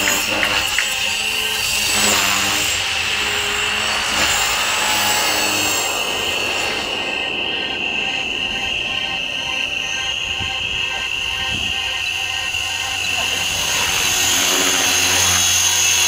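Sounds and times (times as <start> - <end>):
model helicopter rotor whine: 0.0 - 16.0.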